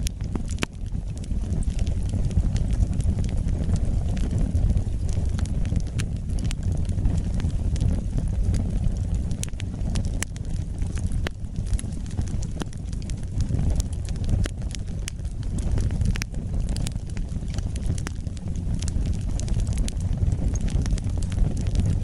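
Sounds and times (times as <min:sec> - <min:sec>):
fire crackling and popping: 0:00.0 - 0:22.0
fire rumbling: 0:00.0 - 0:22.0.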